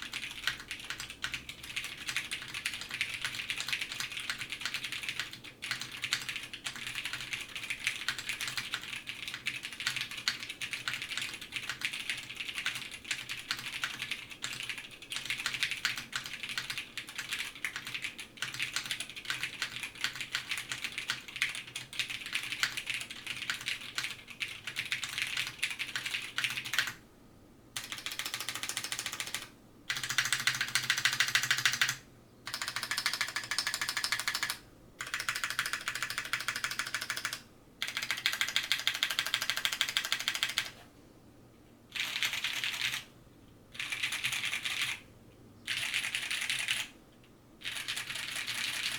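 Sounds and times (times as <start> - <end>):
mechanical keyboard typing: 0.0 - 27.0, 27.8 - 40.8, 41.9 - 43.1, 43.7 - 45.0, 45.7 - 47.0, 47.6 - 48.9.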